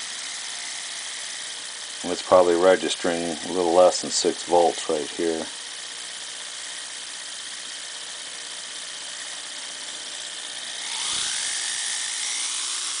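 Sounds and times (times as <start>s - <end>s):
small motor whirring: 0.0s - 13.0s.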